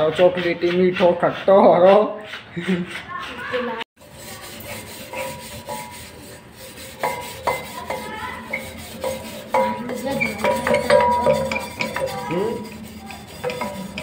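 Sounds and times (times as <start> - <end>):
hands scrubbing metal: 0.0 - 14.0.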